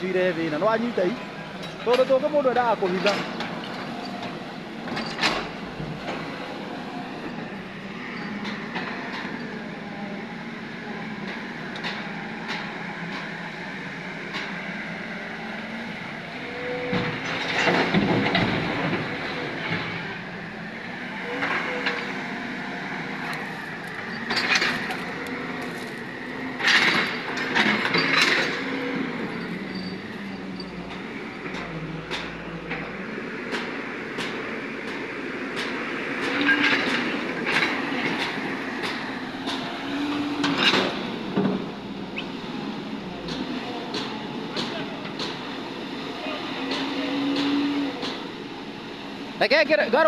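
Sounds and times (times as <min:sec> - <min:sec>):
excavator diesel engine: 0:00.0 - 0:50.0.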